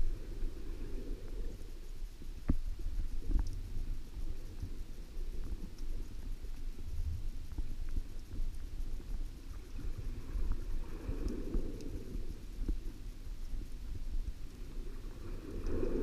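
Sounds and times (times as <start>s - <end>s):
underwater rumble of moving water: 0.0s - 16.0s
faint clicks: 0.3s - 16.0s.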